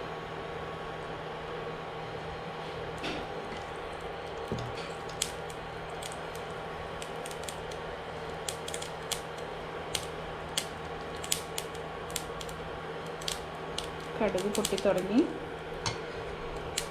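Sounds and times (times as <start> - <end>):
steady hum: 0.0 - 16.9
seeds popping in hot oil: 3.0 - 16.9.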